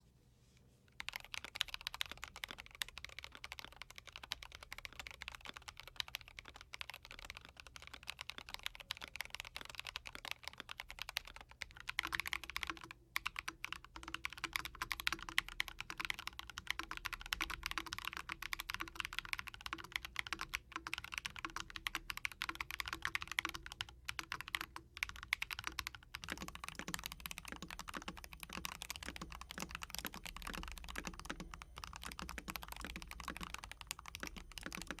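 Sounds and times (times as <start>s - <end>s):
fast typing on mechanical keyboard: 1.0s - 35.0s.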